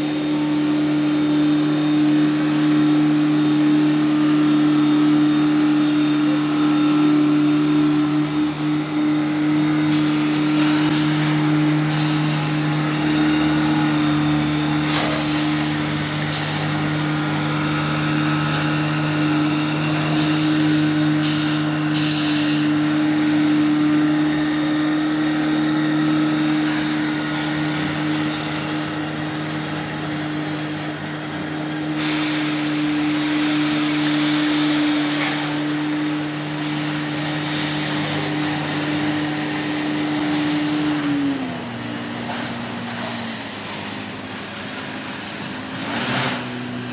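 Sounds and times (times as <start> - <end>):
sawmill machinery humming: 0.0 - 46.9.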